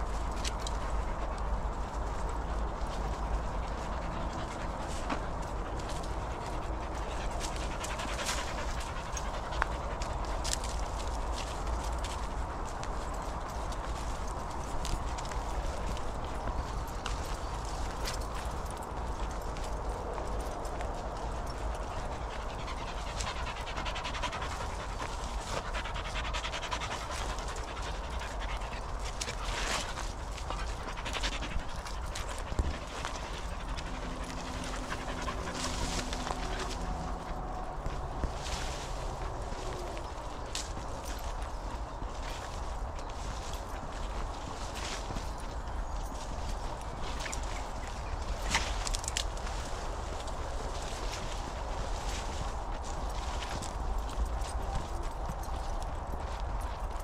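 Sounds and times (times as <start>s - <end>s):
dog panting: 0.0s - 57.0s
footsteps crunching on dirt: 0.0s - 57.0s.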